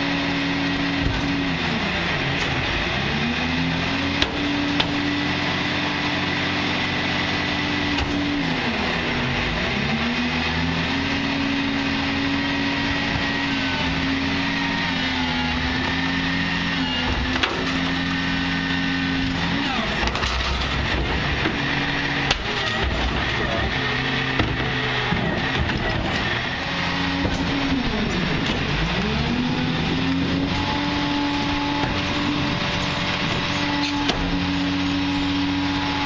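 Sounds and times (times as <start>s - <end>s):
garbage truck diesel engine: 0.0s - 36.0s.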